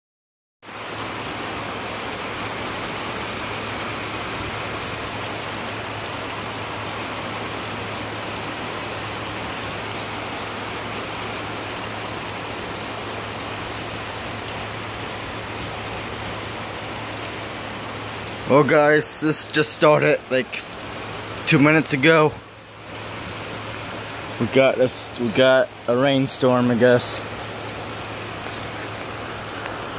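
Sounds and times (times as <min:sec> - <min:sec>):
heavy rain pouring: 0:00.6 - 0:29.9.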